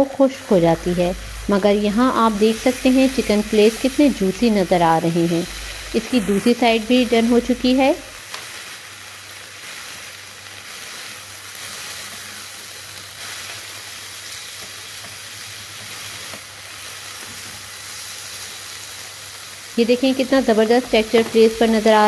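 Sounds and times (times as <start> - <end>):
chicken sizzling in grill pan: 0.0 - 22.0.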